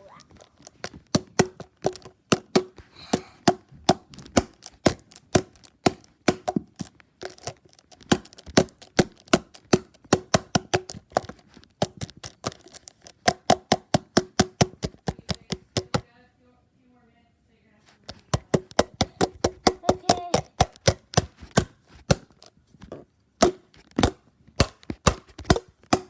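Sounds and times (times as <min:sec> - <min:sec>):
hard knocks on plastic bottle: 0:00.8 - 0:16.0, 0:18.1 - 0:22.5, 0:23.4 - 0:26.0.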